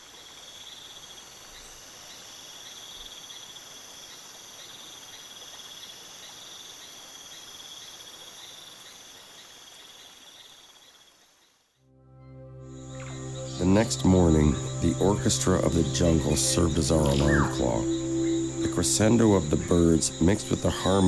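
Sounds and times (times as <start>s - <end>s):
high hiss of insects: 0.0s - 11.7s, 12.6s - 21.0s
insects chirring in a high trill: 0.0s - 11.7s, 12.5s - 21.0s.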